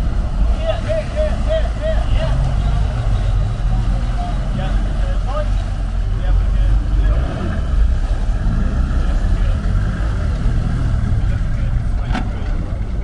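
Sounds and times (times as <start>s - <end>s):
boat diesel engine running: 0.0s - 13.0s.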